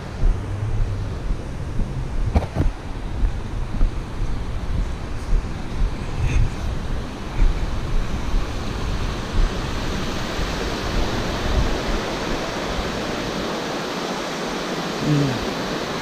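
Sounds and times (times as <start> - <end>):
wind buffeting microphone: 0.0 - 14.0
creek water rushing over rocks: 0.0 - 16.0.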